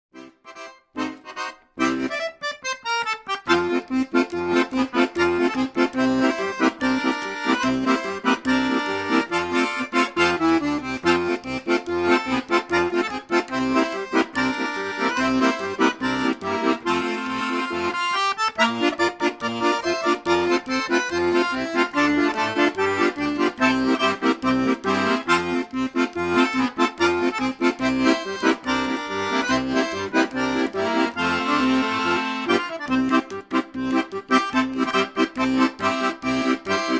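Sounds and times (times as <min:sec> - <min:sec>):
accordion playing a tune: 0:00.2 - 0:36.9
rhythmic bass accompaniment: 0:00.2 - 0:36.9.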